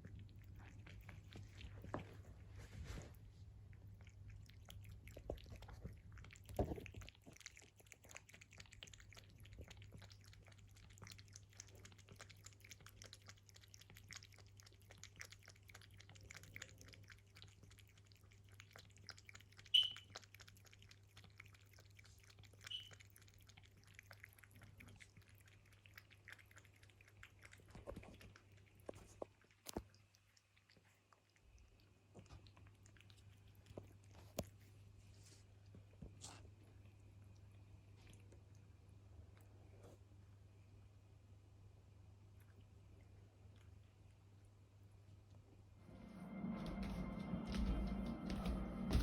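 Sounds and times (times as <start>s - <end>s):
cat chewing: 0.0s - 40.7s, 41.4s - 49.0s.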